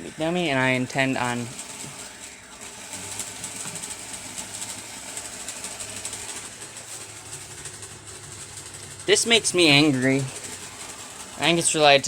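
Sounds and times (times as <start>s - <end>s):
wheels clicking on track: 0.7s - 12.0s
model train motor whirring: 1.0s - 12.0s.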